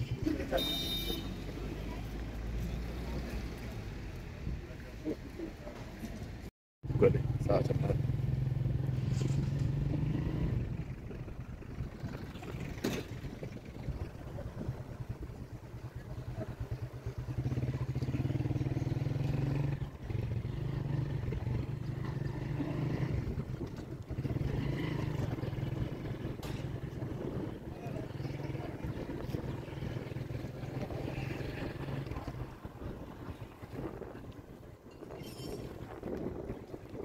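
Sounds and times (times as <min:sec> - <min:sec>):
street traffic: 0:00.0 - 0:37.0
vehicle engine humming: 0:00.0 - 0:37.0.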